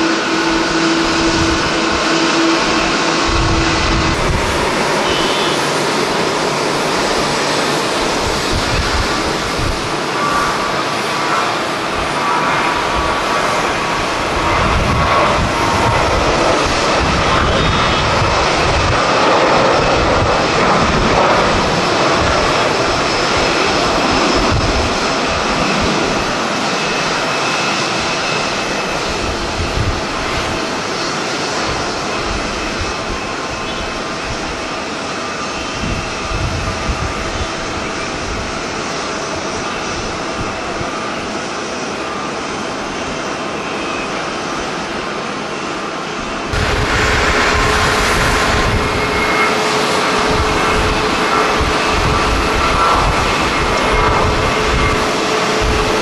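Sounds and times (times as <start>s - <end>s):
jet engines at takeoff: 0.0s - 56.0s
wind buffeting microphone: 0.0s - 56.0s.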